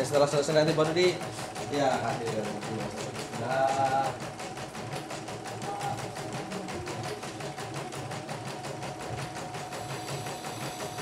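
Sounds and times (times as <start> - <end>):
embroidery machine needle strokes: 0.0 - 11.0
motor hum: 0.0 - 11.0.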